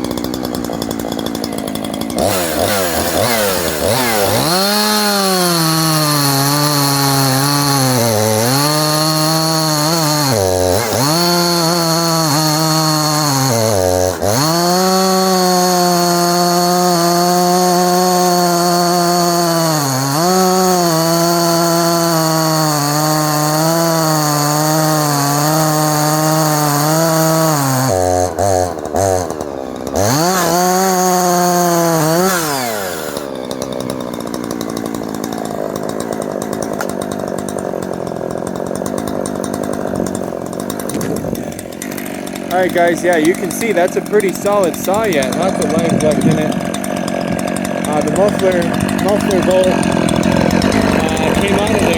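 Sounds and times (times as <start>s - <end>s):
chainsaw revving and idling: 0.0s - 51.9s.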